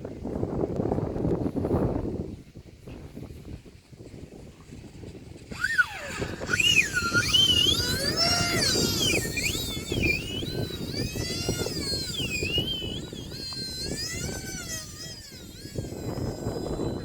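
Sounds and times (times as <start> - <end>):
wind buffeting on microphone: 0.0 - 17.0
model jet fans whining: 2.9 - 17.0.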